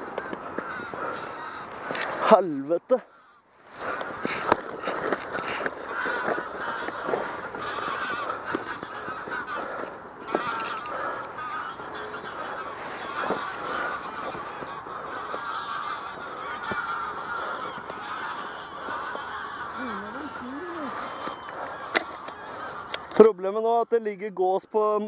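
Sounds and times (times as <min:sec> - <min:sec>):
geese honking: 0:00.0 - 0:23.3.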